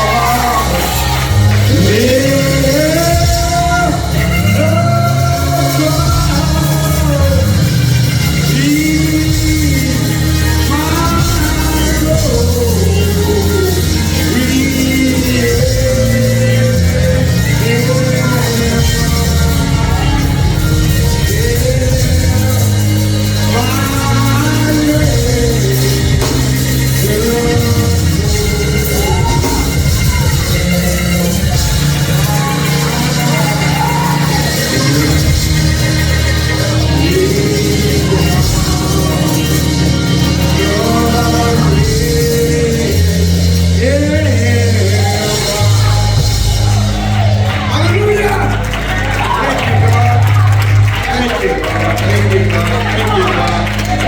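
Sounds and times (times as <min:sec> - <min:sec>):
bass line: 0:00.0 - 0:54.0
gospel band music: 0:00.0 - 0:54.0
person singing: 0:00.0 - 0:54.0.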